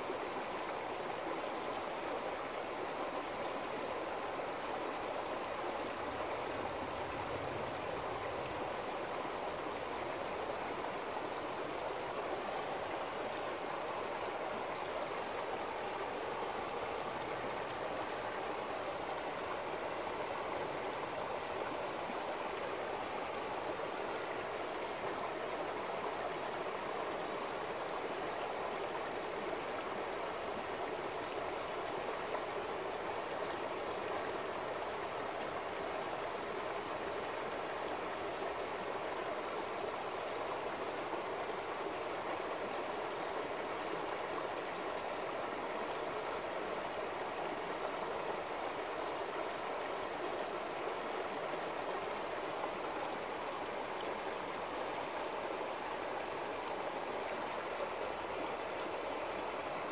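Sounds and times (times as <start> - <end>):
river flowing over stones: 0.0 - 59.9.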